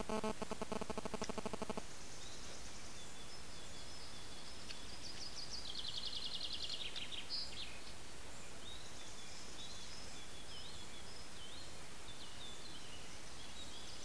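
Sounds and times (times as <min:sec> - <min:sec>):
songbird singing: 0:00.0 - 0:14.0
steady hiss: 0:00.0 - 0:14.0.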